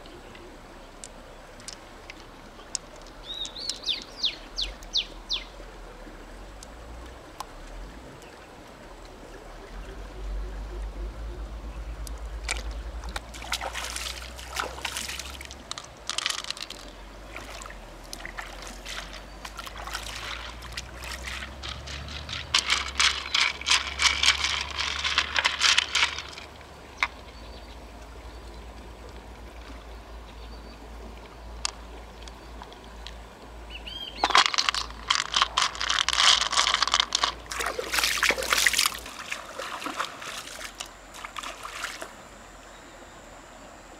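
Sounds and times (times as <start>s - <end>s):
faint steady stream: 0.0s - 43.9s
water splashing in shallow river: 0.0s - 43.9s.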